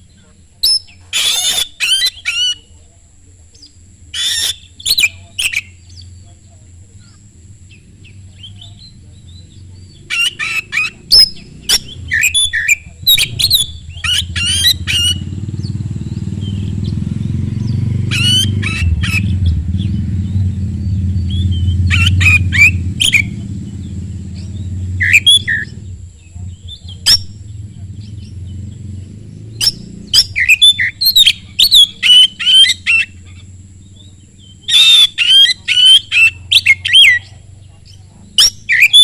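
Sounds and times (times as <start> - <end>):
songbird singing whistled phrases: 0.6 - 2.7, 3.6 - 6.2, 7.7 - 23.4, 24.4 - 27.4, 29.4 - 39.0
steady low rumble: 2.6 - 38.7.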